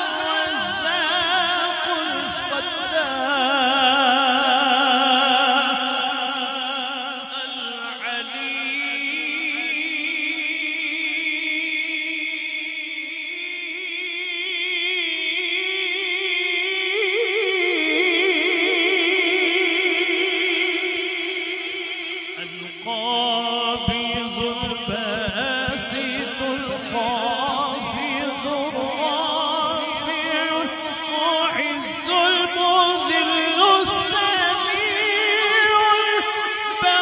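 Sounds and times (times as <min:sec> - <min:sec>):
man singing with vibrato: 0:00.0 - 0:37.0.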